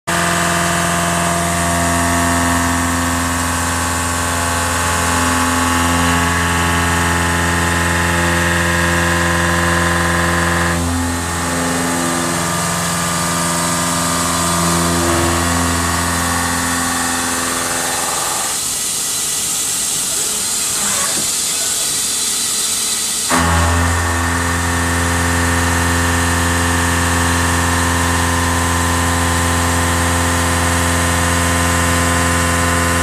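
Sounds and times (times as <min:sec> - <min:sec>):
milling machine cutting metal: 0:00.1 - 0:33.0.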